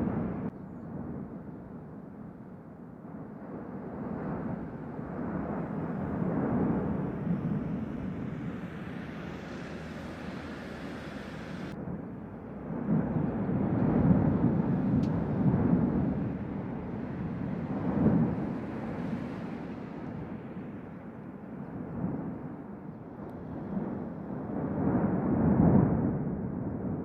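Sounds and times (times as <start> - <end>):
volcano erupting with rough roar: 3.2 - 11.8, 12.6 - 27.0.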